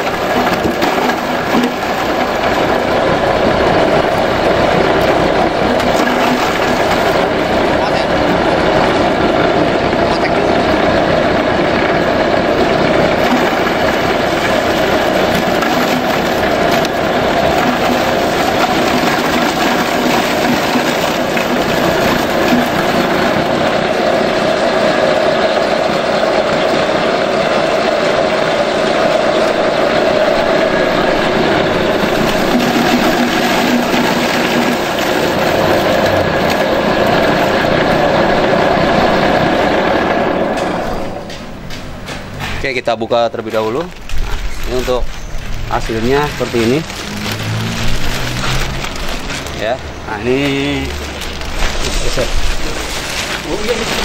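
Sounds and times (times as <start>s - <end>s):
grass chopper running: 0.0s - 42.7s, 43.3s - 54.0s.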